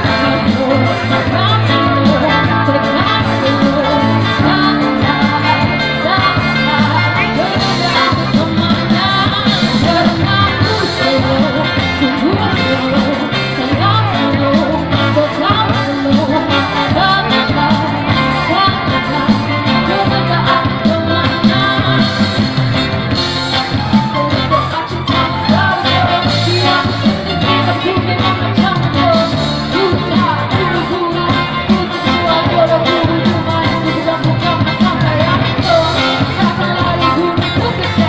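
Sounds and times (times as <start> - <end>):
bass line: 0.0 - 38.0
guitar: 0.0 - 38.0
person singing: 0.0 - 38.0.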